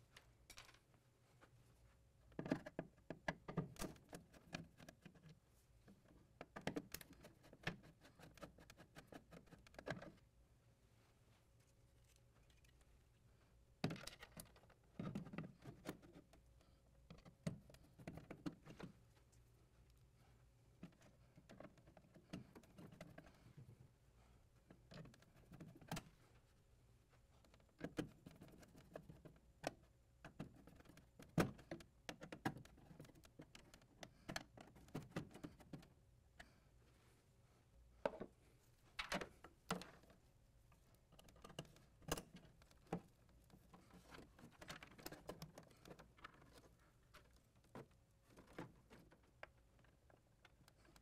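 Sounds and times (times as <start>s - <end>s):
faint clicks and taps of tools: 2.2s - 10.3s, 11.6s - 23.9s, 27.1s - 36.6s, 38.0s - 51.0s.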